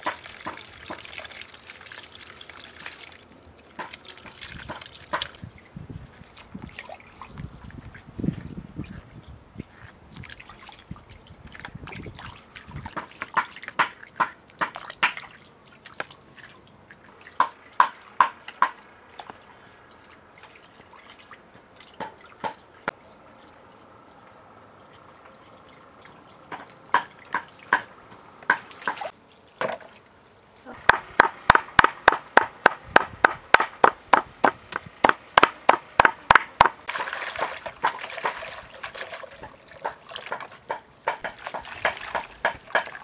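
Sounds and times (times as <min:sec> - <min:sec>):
water trickling: 0:00.0 - 0:30.8, 0:36.0 - 0:43.0.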